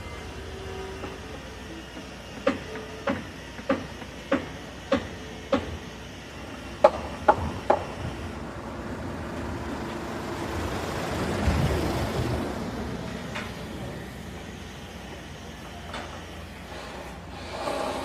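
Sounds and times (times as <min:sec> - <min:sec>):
street background noise: 0:00.0 - 0:18.0.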